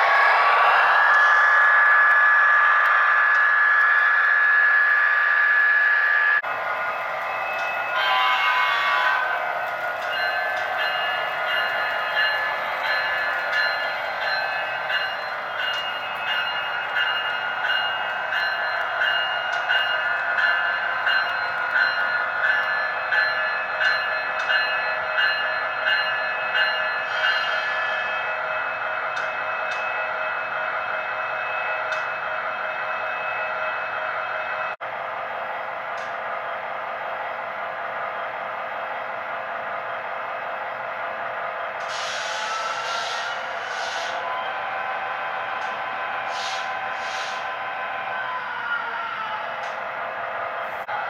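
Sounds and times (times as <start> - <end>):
model train rolling on track: 0.0 - 51.0.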